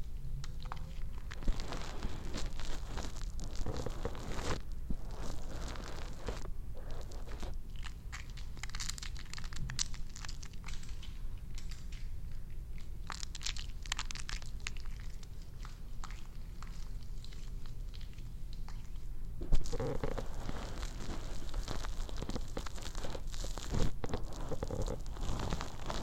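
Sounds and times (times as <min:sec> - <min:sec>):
crisp crackling and clicking: 0:00.4 - 0:26.0.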